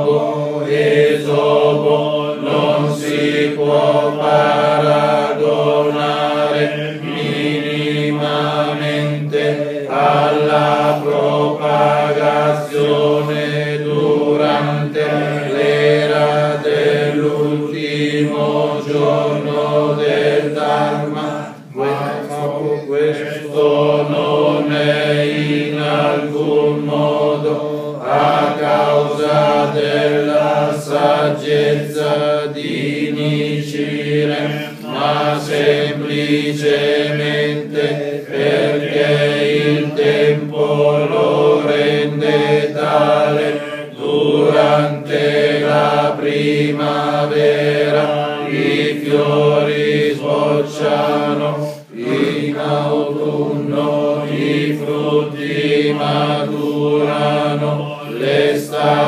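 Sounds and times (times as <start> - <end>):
group chanting in unison: 0.0 - 59.0.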